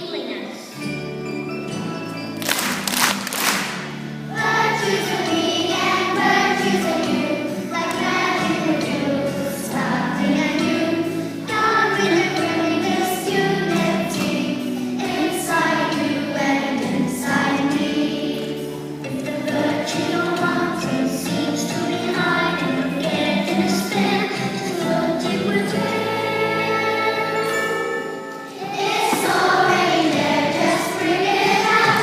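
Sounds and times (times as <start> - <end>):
instrumental accompaniment: 0.7 - 32.0
children singing in chorus: 4.3 - 32.0.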